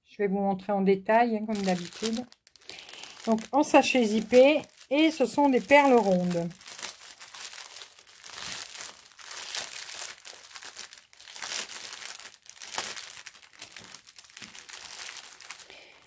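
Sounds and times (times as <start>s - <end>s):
plastic packaging crinkling: 1.5s - 16.0s.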